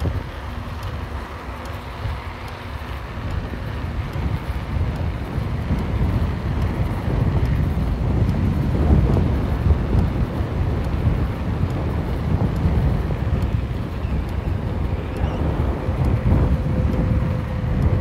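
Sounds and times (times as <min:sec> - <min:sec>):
vehicle rumble on asphalt: 0:00.0 - 0:18.0
wind buffeting microphone: 0:00.0 - 0:18.0.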